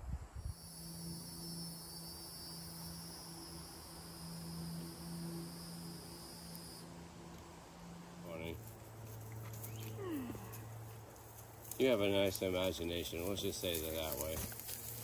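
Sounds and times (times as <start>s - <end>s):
low steady hum: 0.0s - 13.3s
insects buzzing: 0.1s - 15.0s.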